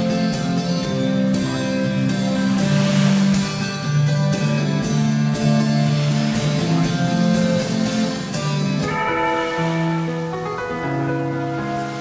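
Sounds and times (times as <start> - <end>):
held chord ringing: 0.0 - 12.0
low held bass notes: 0.0 - 12.0
plucked string notes: 0.0 - 12.0.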